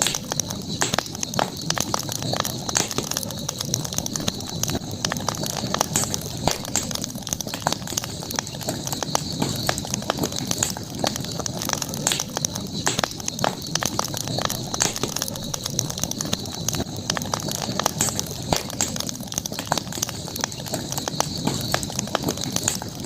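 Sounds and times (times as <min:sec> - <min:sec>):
campfire crackling: 0:00.0 - 0:23.0
high-pitched background hiss: 0:00.0 - 0:23.0.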